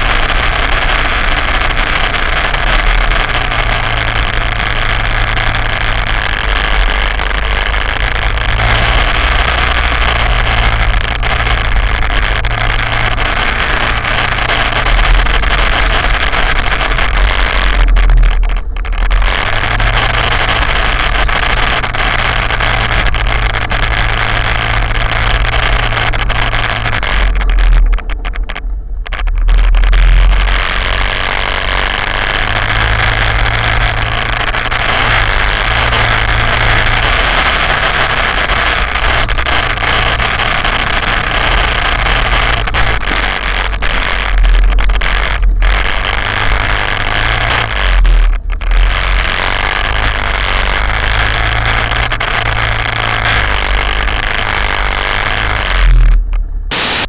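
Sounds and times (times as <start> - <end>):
quad bike engine running: 0.0 - 57.0
wind and track noise: 0.0 - 57.0.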